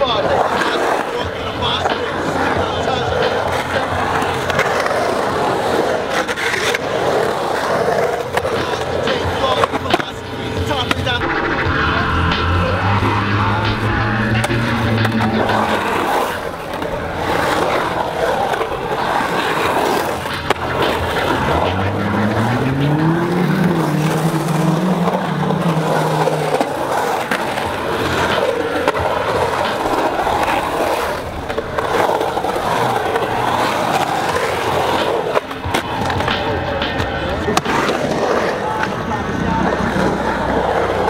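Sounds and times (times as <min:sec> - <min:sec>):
skateboard clacks: 0:00.0 - 0:41.0
skateboard wheels rolling on concrete: 0:00.0 - 0:41.0.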